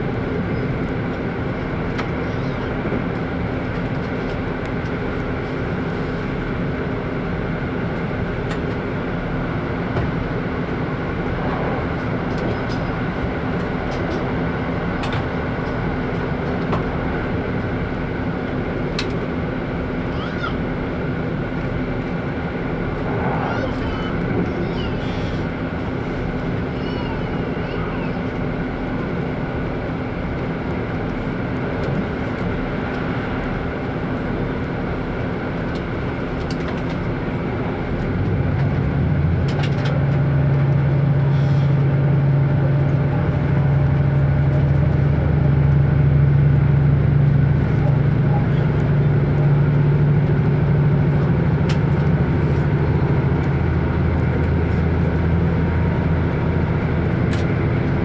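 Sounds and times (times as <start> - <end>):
diesel engine hum: 0.0 - 58.0
wheels rumbling on rail: 0.0 - 58.0.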